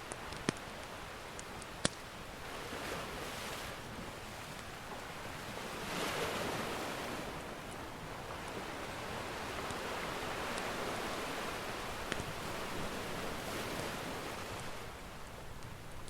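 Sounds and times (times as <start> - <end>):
wood fire crackling: 0.0 - 16.0
ocean surf washing in: 2.2 - 15.3.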